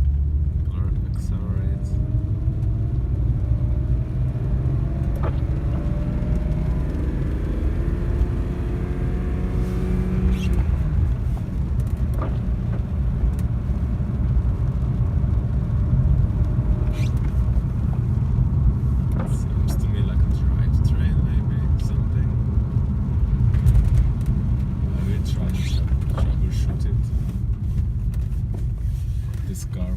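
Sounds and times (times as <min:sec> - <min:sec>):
car engine and road noise: 0:00.0 - 0:29.9.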